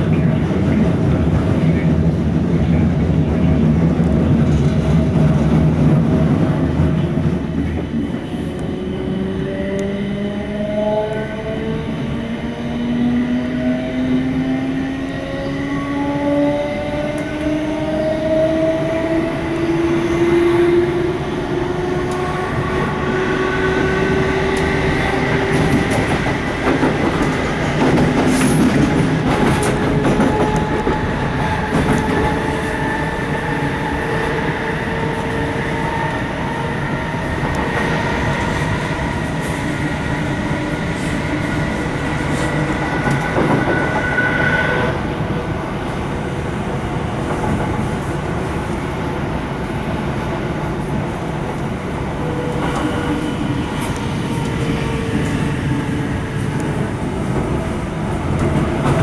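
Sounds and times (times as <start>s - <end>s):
train wheel-on-rail rumble: 0.0s - 59.0s.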